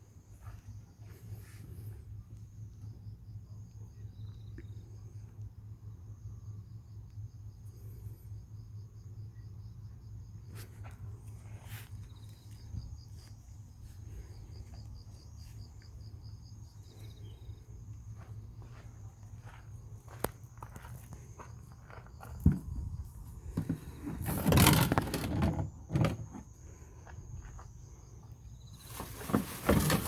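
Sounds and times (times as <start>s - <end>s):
constant low hum: 0.0s - 30.0s
insects trilling: 0.0s - 30.0s.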